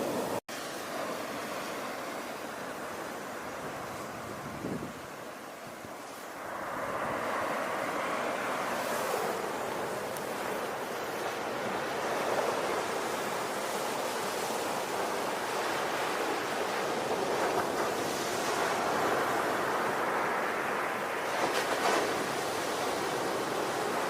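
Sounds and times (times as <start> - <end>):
ocean waves washing onto shore: 0.0 - 24.0.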